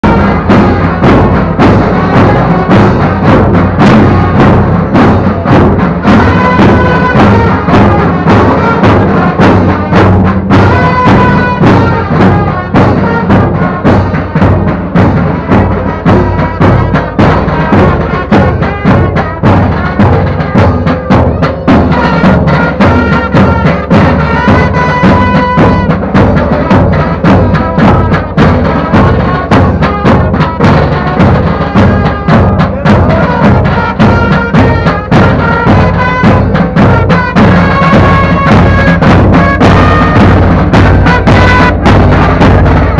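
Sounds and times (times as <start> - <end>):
bass and side drums beat: 0.0 - 42.9
bagpipes playing a tune: 0.1 - 14.4, 15.2 - 42.8.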